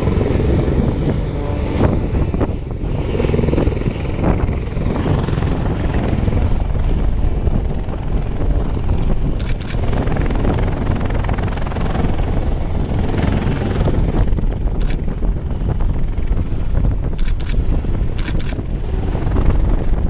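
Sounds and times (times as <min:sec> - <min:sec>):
deep turbine drone: 0:00.0 - 0:20.0
helicopter rotor chopping: 0:00.0 - 0:20.0.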